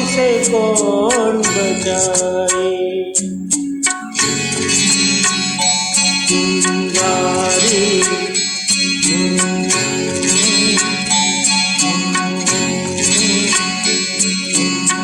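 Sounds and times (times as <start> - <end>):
instrumental film song music: 0.0 - 15.0.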